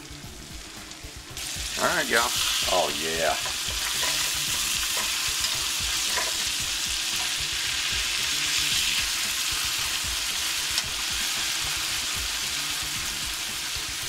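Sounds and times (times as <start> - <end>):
wings deep-frying in hot oil: 0.0 - 14.0.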